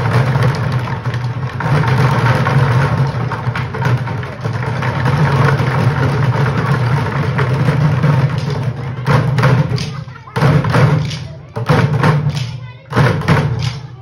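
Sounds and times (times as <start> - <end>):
drumsticks beating plastic buckets: 0.0 - 14.0.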